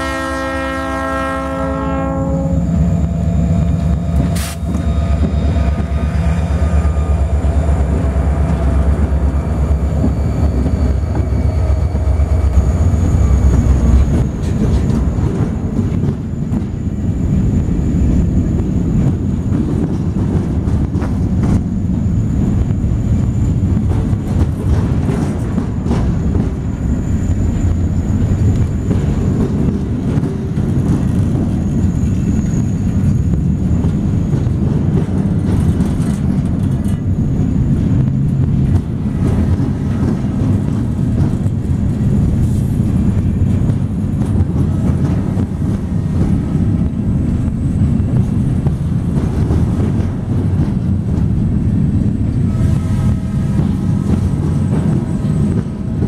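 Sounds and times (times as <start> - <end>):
freight cars rumbling on rail: 0.0 - 56.0.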